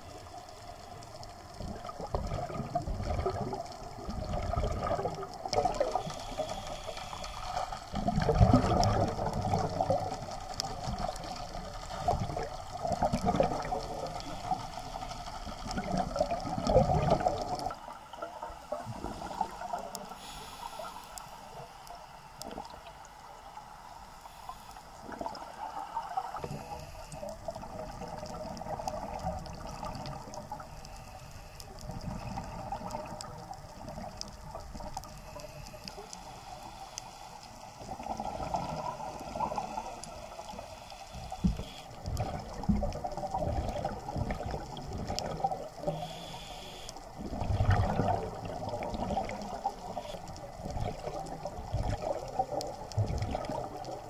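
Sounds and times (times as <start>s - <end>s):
underwater bubbles gurgling: 0.0s - 54.0s.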